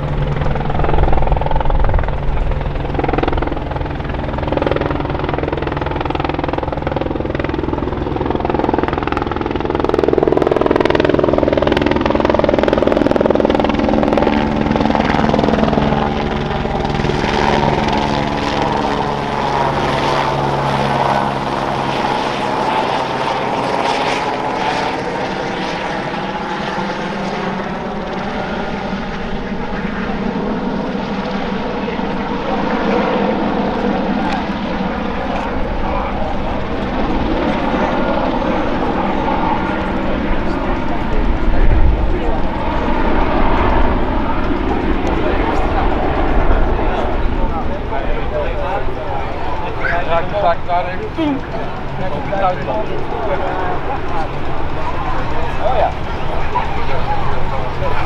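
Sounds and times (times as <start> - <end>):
helicopter flying overhead: 0.0 - 58.0.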